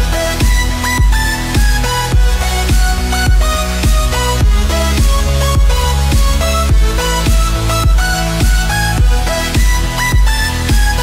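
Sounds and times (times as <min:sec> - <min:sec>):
deep bass beat: 0:00.0 - 0:11.0.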